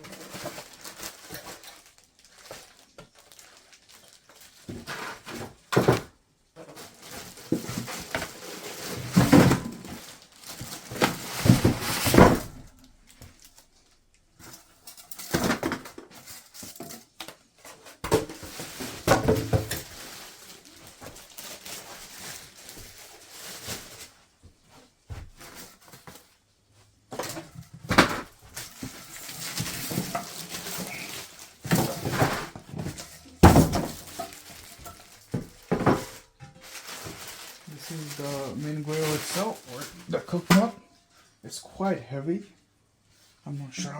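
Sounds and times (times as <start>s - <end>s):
cardboard and packing handled: 0.0s - 40.8s.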